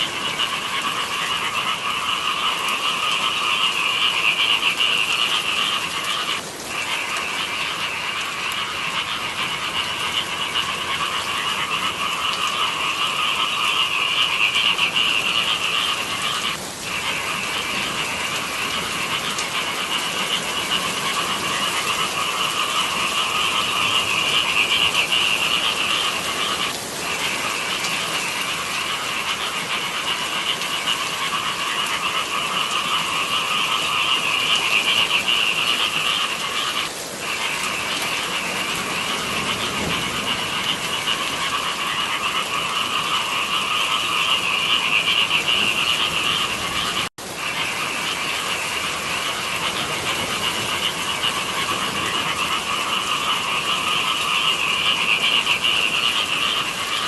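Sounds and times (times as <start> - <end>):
chorus of frogs trilling: 0.0 - 57.0.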